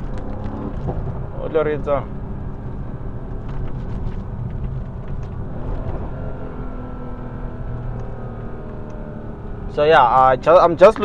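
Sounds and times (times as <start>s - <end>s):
car engine drone from cabin: 0.0s - 11.0s.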